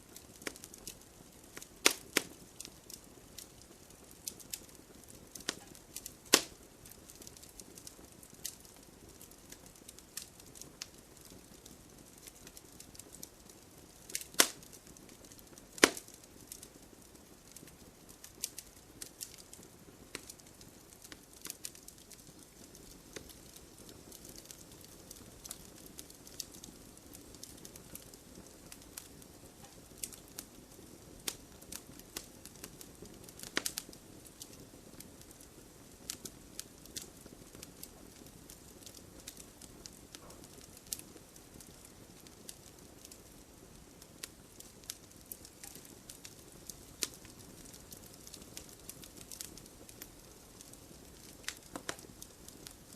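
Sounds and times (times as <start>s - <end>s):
hiss of burning: 0.0s - 52.9s
wood fire crackling: 0.0s - 52.9s.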